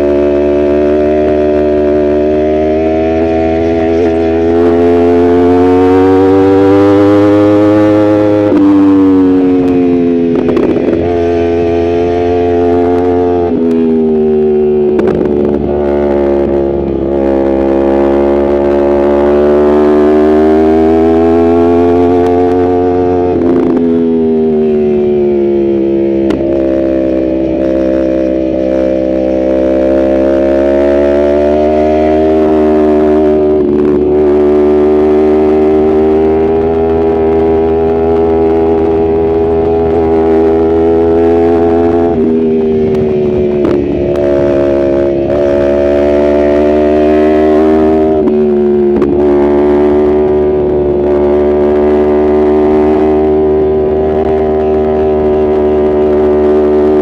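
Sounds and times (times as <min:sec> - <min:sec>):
motorcycle engine revving under load: 0:00.0 - 0:57.0.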